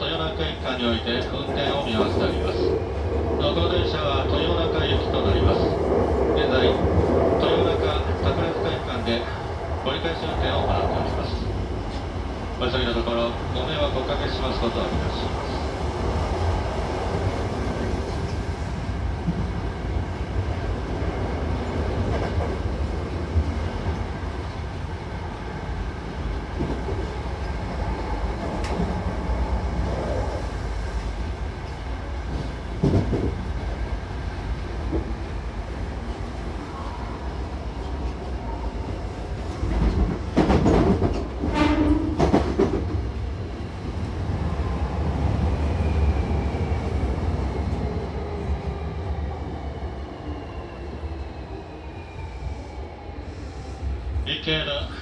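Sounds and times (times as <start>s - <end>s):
train rumbling inside passenger car: 0.0s - 55.0s.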